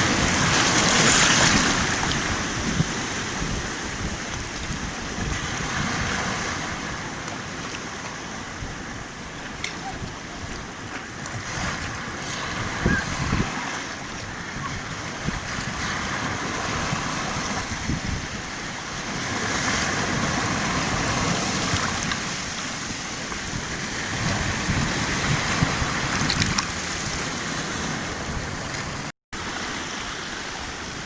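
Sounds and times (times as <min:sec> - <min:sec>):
wind buffeting microphone: 0:00.0 - 0:29.1
surf breaking and washing in: 0:00.0 - 0:31.0.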